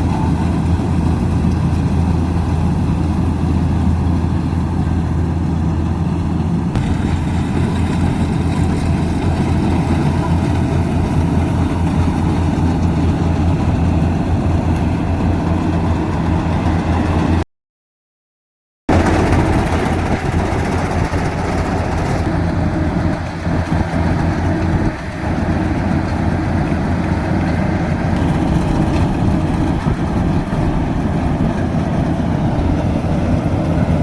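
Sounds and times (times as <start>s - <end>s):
combine harvester diesel engine humming: 0.0s - 17.4s, 18.9s - 34.0s.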